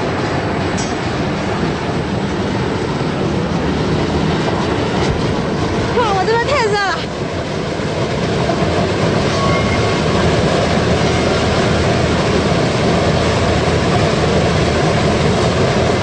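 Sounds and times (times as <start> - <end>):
burner rushing noise: 0.0 - 16.0.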